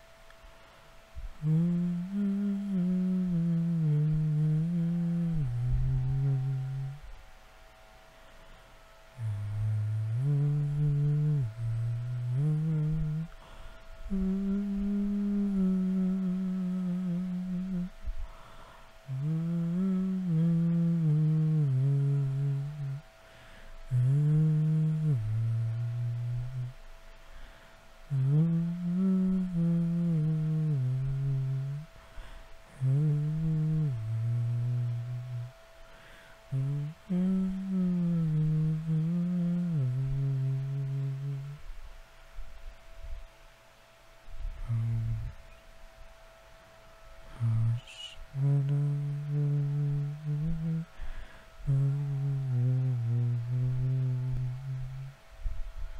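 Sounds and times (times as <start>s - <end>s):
faint steady tone: 0.0s - 55.9s
man humming: 1.1s - 8.0s, 9.0s - 41.8s, 44.4s - 45.7s, 47.2s - 55.3s.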